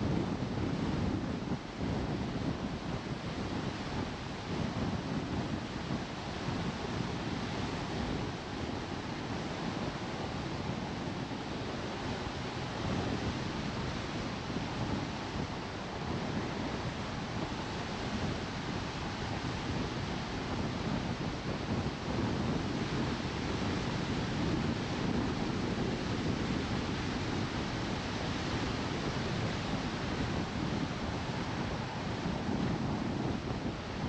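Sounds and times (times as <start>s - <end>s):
wind buffeting microphone: 0.0s - 34.0s
wind rushing past car: 0.0s - 34.0s.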